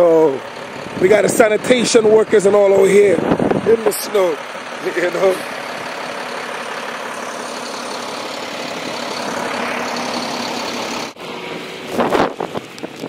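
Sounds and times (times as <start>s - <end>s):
heavy truck engine running: 0.0s - 13.0s.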